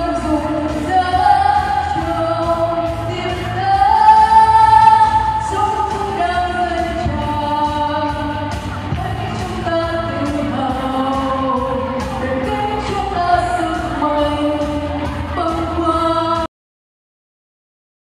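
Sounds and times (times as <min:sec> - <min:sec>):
musical accompaniment: 0:00.0 - 0:16.5
women's group singing: 0:00.0 - 0:16.5.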